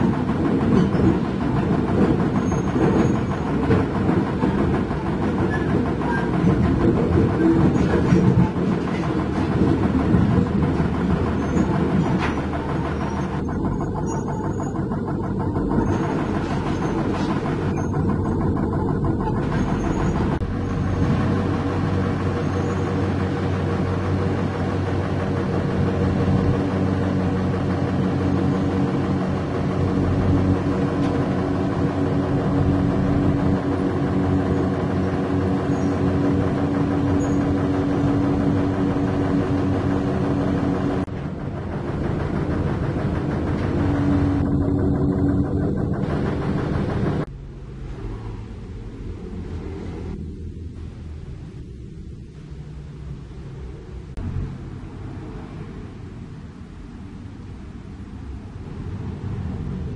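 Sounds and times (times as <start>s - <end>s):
diesel engine idling: 0.0s - 52.2s.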